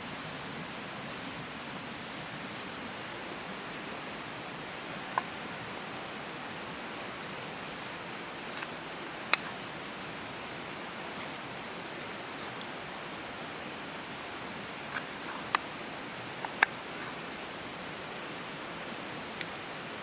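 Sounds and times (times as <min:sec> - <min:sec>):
campfire hissing: 0:00.0 - 0:20.0.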